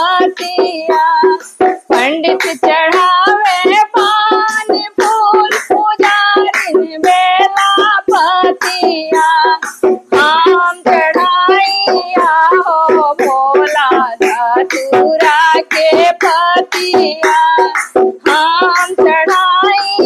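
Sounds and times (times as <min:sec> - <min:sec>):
hand drum strokes: 0:00.0 - 0:20.0
woman singing devotional song: 0:00.0 - 0:20.0.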